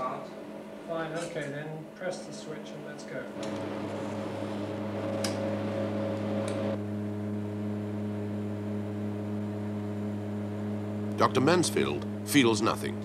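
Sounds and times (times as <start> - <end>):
electrical hum of scanner: 0.0 - 13.0.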